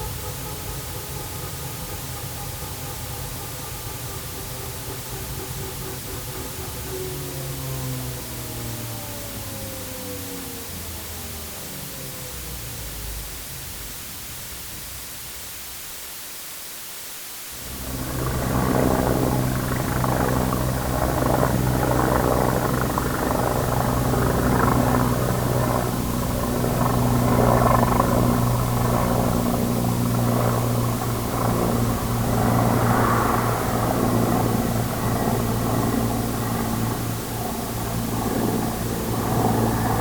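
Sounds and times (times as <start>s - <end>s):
helicopter engine and rotor: 0.0s - 13.2s, 17.6s - 40.0s.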